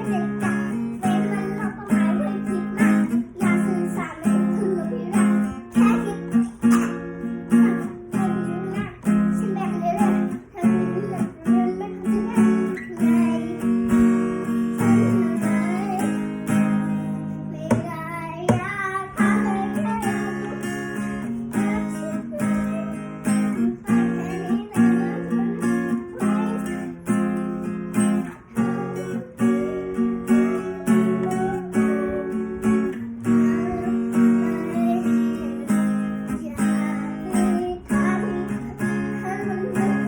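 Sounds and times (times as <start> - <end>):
acoustic guitar strumming chords: 0.0 - 40.0
person singing: 0.0 - 40.0.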